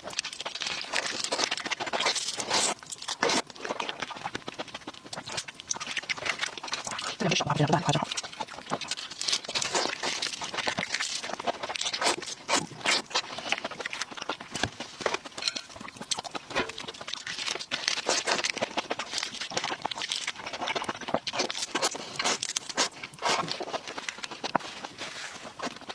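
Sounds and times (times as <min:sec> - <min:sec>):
shrimp shells crackling while chewed: 0:00.0 - 0:25.9.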